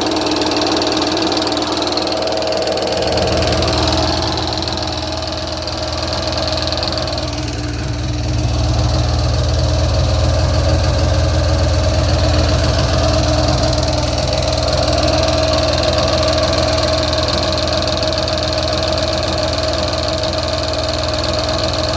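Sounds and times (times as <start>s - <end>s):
engine rumbling with steady tone: 0.0s - 21.9s.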